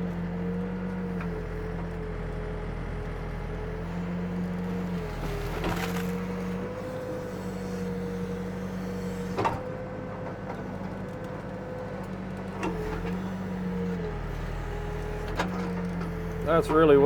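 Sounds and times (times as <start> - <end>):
backhoe diesel engine running: 0.0 - 17.0.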